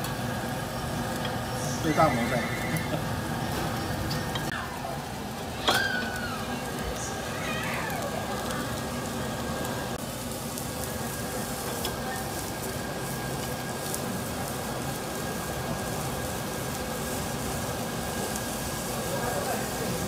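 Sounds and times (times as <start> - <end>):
seafood sizzling on a grill: 0.0 - 20.0.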